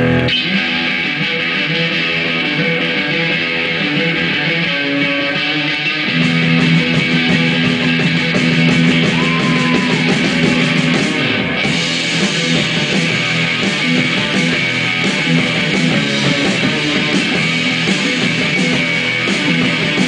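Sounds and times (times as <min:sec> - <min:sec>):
drum kit: 0:00.0 - 0:20.0
electric guitars holding chords: 0:00.0 - 0:20.0.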